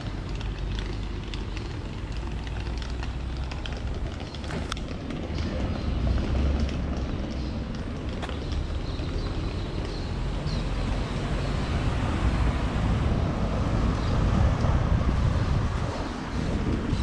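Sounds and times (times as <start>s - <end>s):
wind rumbling on microphone: 0.0s - 17.0s
vehicle passing: 2.8s - 17.0s.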